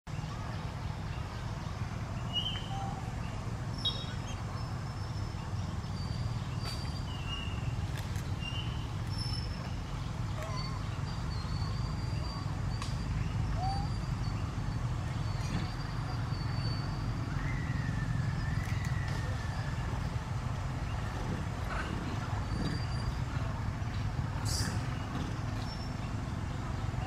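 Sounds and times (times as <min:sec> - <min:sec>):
steady low rumble: 0:00.2 - 0:27.0.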